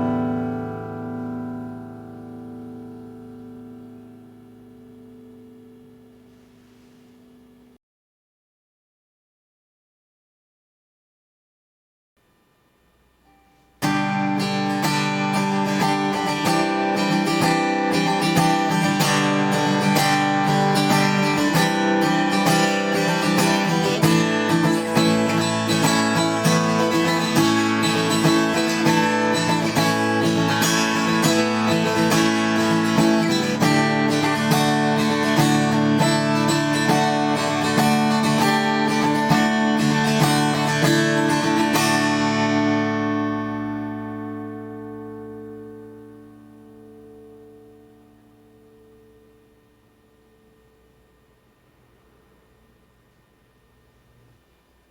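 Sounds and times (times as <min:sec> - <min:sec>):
acoustic guitar strumming chords: 0:00.0 - 0:07.8, 0:13.2 - 0:50.9.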